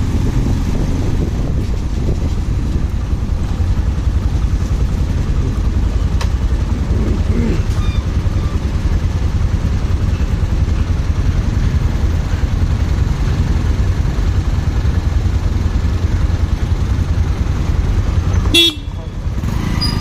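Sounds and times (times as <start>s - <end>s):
motorcycle engine: 0.0s - 20.0s
road and wind noise: 0.0s - 20.0s.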